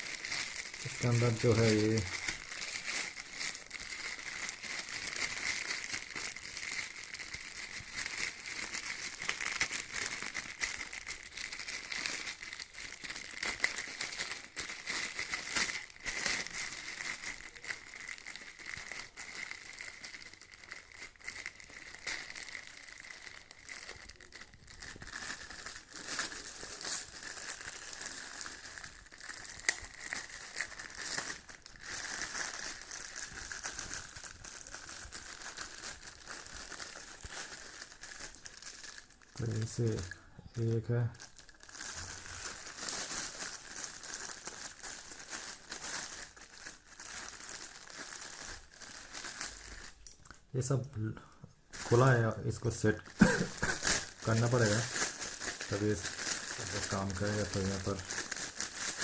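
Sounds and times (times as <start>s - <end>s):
packaging crinkling: 0.0s - 59.0s.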